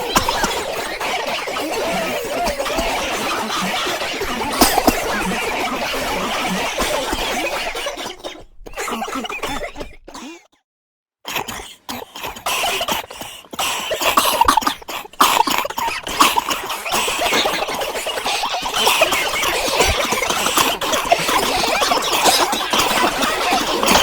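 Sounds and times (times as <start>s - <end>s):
people coughing: 0.0s - 10.5s, 11.3s - 24.0s.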